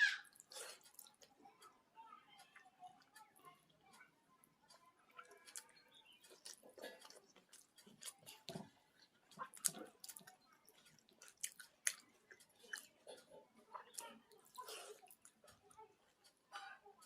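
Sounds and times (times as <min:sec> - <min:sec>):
person chewing and eating: 0:00.1 - 0:17.0.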